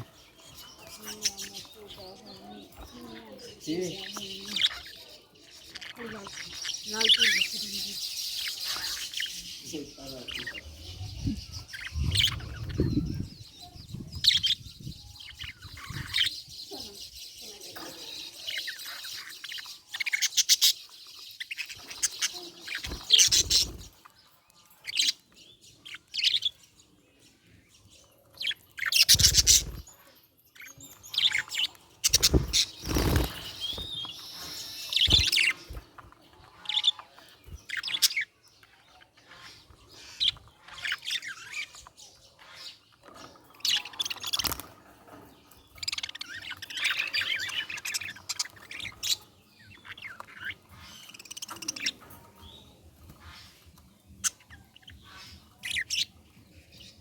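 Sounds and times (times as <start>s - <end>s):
budgerigar chirping and warbling: 0.0s - 24.0s, 28.4s - 29.8s, 30.6s - 35.8s, 36.4s - 44.6s, 45.7s - 52.6s.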